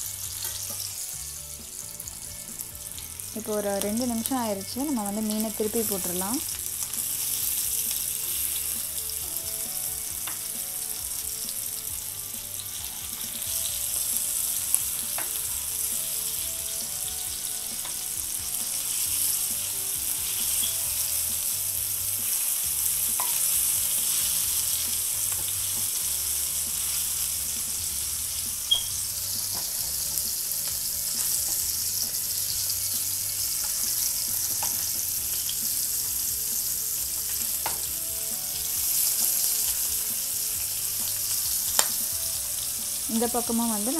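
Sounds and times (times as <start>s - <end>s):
fish sizzling in oil: 0.0s - 43.9s.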